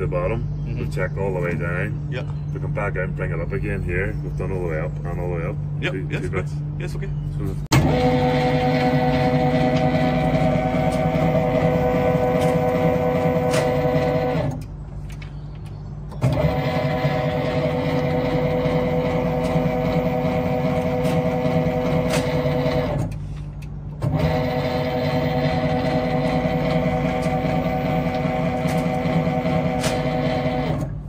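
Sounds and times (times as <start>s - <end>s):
motor hum: 0.0s - 31.0s.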